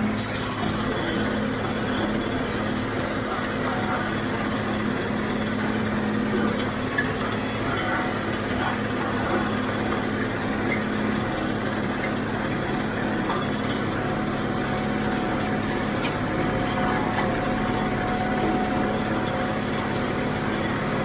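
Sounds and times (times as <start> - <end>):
tractor diesel engine humming: 0.0 - 21.0.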